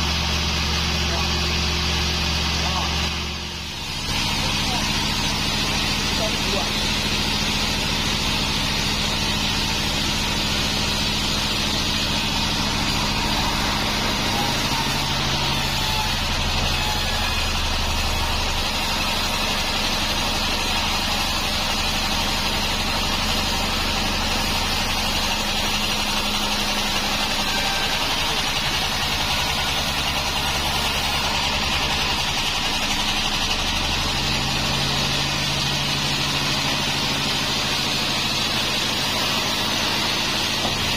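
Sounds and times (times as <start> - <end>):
band saw machine drone: 0.0 - 40.9.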